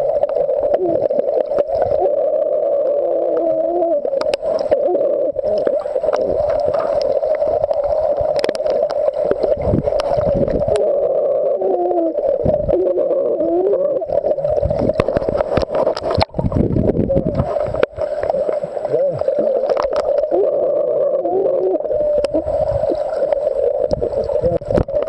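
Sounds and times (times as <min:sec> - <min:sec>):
underwater pool drone: 0:00.0 - 0:25.0
water rushing and sloshing: 0:00.0 - 0:25.0.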